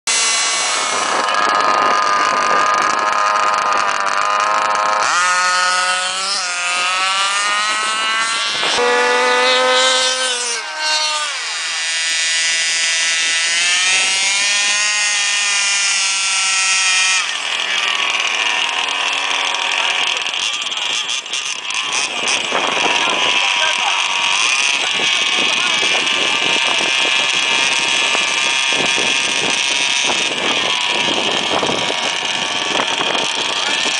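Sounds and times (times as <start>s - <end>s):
small rc car engines revving: 0.1s - 33.9s.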